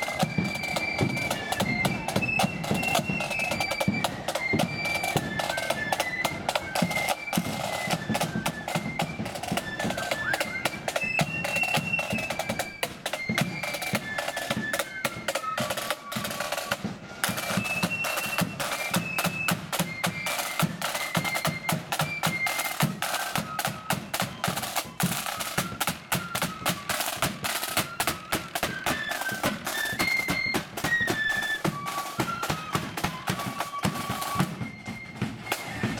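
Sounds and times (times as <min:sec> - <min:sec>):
flutes playing melody: 0:00.0 - 0:36.0
snare drum rolls: 0:00.0 - 0:36.0.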